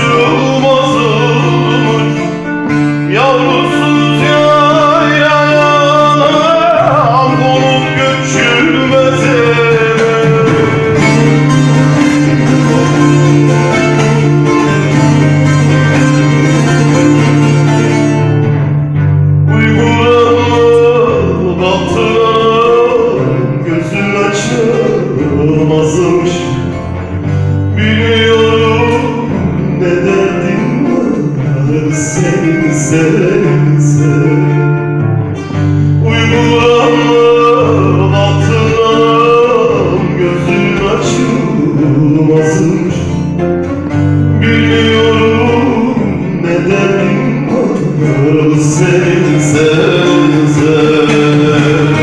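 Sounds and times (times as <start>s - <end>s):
man singing into microphone: 0.0s - 52.0s
plucked lute: 0.0s - 52.0s.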